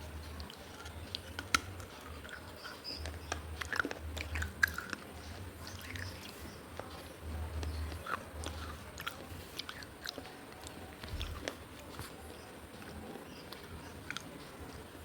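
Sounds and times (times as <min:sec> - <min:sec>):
biting and chewing baked clay: 0:00.0 - 0:15.0.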